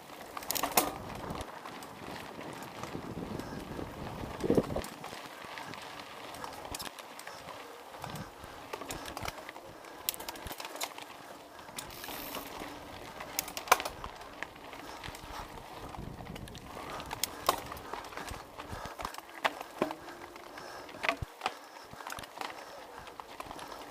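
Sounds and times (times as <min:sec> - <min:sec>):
mountain bike rattling: 0:00.0 - 0:23.9.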